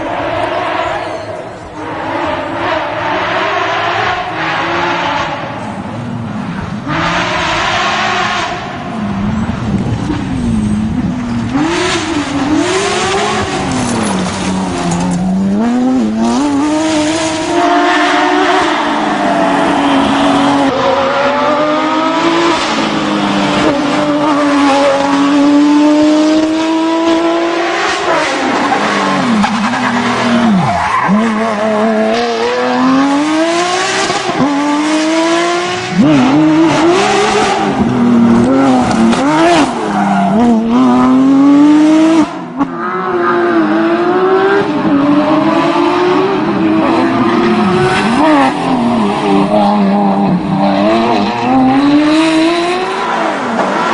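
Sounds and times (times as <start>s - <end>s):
rally car engine revving hard: 6.8s - 53.9s.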